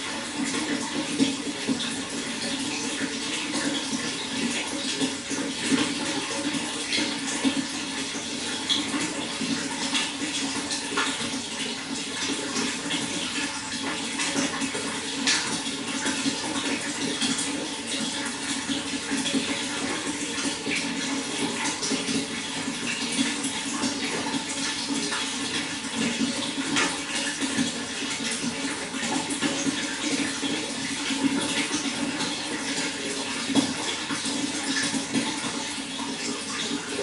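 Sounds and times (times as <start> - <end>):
running water splashing: 0.0 - 37.0.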